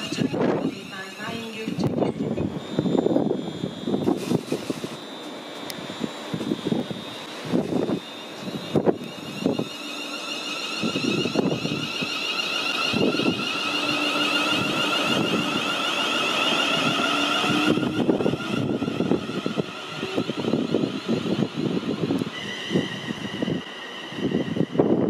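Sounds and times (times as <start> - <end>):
wind buffeting microphone: 0.0 - 5.0, 5.8 - 9.8, 10.7 - 12.2, 12.8 - 15.9, 16.6 - 25.0
electric train whine: 0.0 - 25.0.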